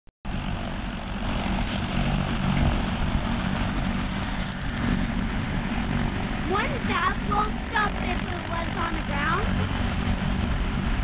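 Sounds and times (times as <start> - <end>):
helicopter rotor beat: 0.3 - 11.0
turbine whine: 0.3 - 11.0.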